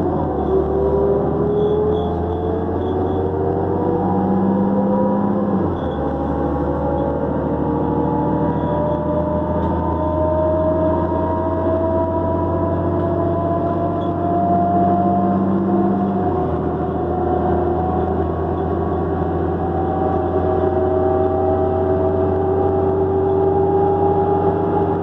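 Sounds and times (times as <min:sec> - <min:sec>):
bus diesel engine under load: 0:00.0 - 0:25.0
turbocharger whine: 0:00.0 - 0:25.0.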